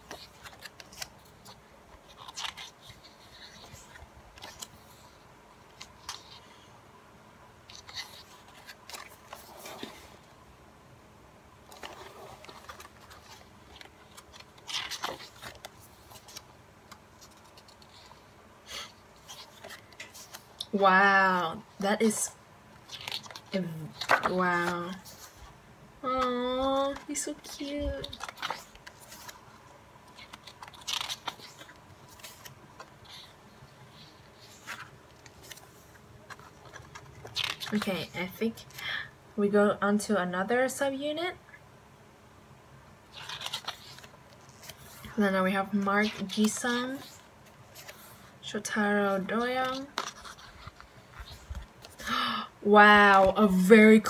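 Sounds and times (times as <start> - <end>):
paper pages rustling and flapping: 0.0 - 6.8, 7.6 - 10.4, 11.6 - 38.8, 43.0 - 52.3, 53.0 - 53.6.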